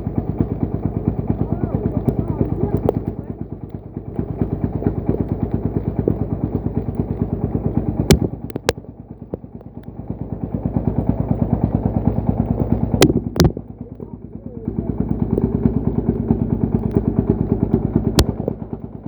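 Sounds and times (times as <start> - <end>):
diesel engine chugging: 0.0 - 19.0.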